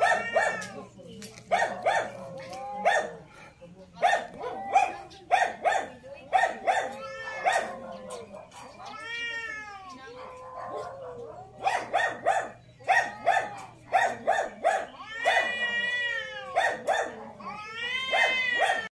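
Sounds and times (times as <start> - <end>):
cats yowling: 0.0 - 18.9.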